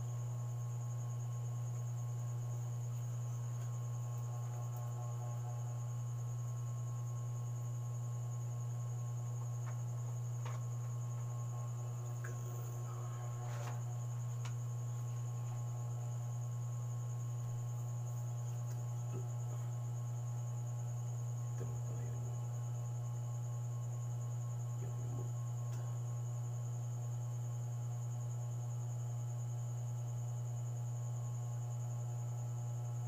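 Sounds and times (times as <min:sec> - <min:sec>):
faint high whine: 0:00.0 - 0:33.0
low electrical hum: 0:00.0 - 0:33.0.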